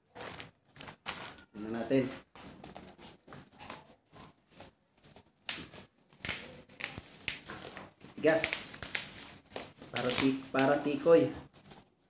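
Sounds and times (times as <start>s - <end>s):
packaging rustling and tearing: 0.1s - 12.0s.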